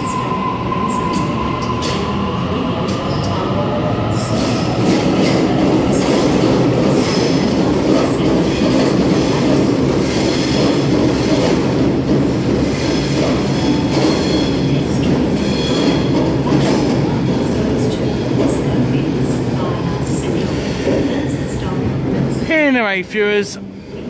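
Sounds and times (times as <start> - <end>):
train wheels rumbling on rail: 0.0 - 22.4.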